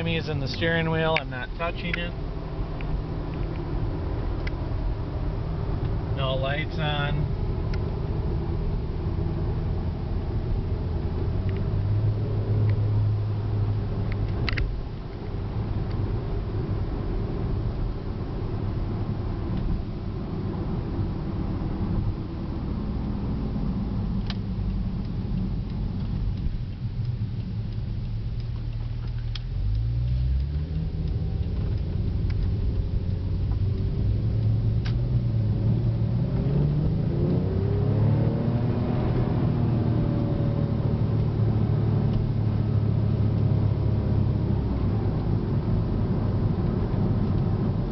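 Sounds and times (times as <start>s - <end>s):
car engine: 0.0s - 47.9s
road noise inside car: 0.0s - 47.9s.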